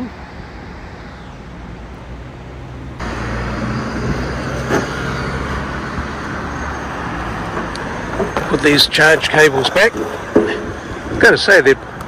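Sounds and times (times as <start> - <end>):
outdoor hum and traffic noise: 0.0 - 12.0.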